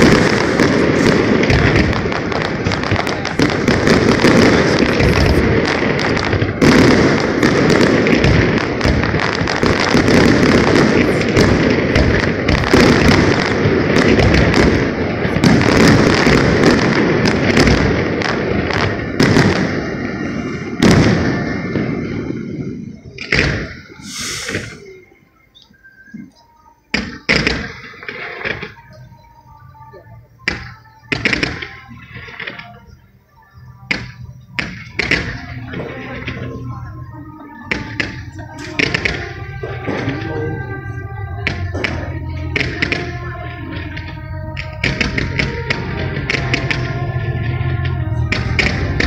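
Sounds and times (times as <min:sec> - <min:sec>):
fireworks bangs and crackling: 0:00.0 - 0:49.0.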